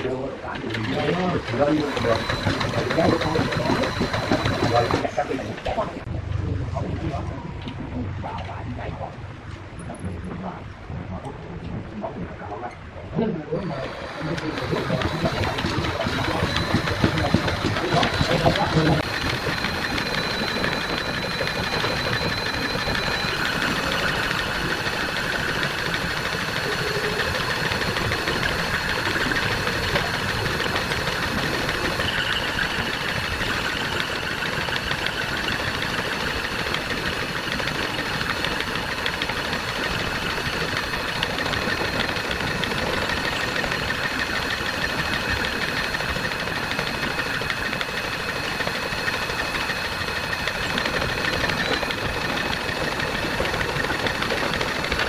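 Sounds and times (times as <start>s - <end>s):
electric drill whining: 0.9s - 5.6s, 13.7s - 55.0s.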